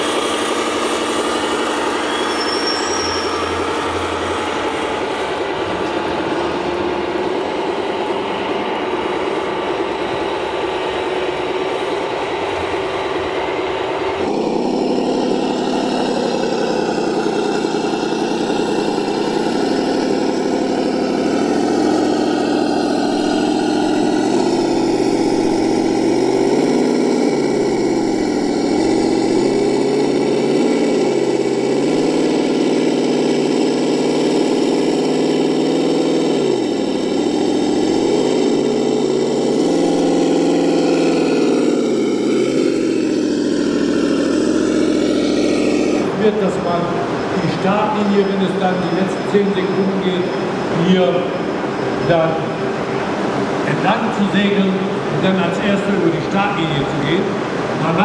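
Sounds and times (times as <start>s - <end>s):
mechanical hum with held tone: 0.0s - 58.0s
simulated engine revving: 0.0s - 58.0s.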